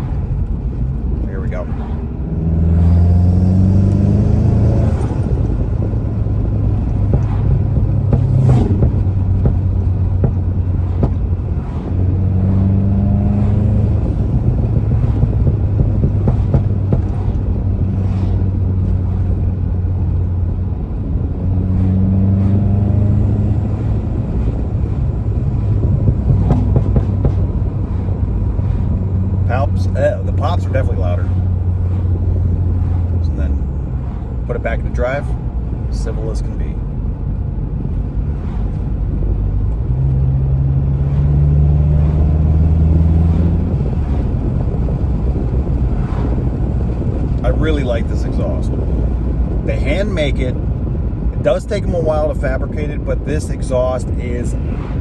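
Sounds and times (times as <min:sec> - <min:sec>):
car engine accelerating hard: 0:00.0 - 0:55.0
exhaust pops and crackles: 0:04.7 - 0:12.7, 0:13.4 - 0:21.3, 0:23.4 - 0:54.8.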